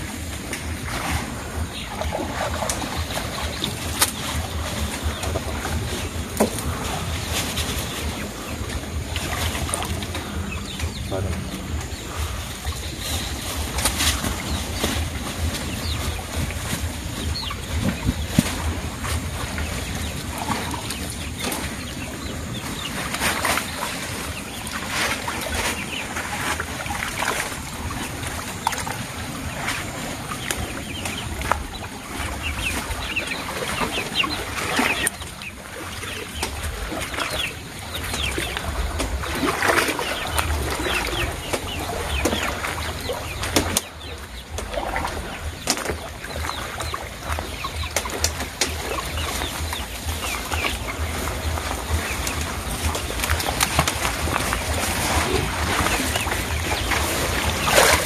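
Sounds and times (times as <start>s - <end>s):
poultry clucking: 0.0s - 58.0s
water sloshing and splashing: 0.0s - 58.0s.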